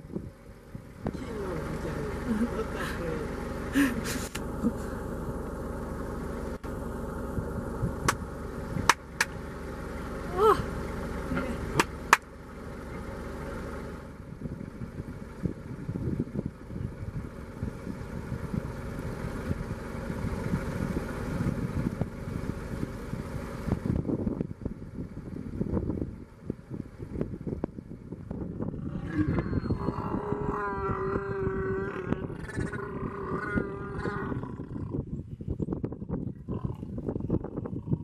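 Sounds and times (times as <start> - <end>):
uneven low rumbling: 0.0 - 38.0
vehicle engine idling: 0.0 - 38.0.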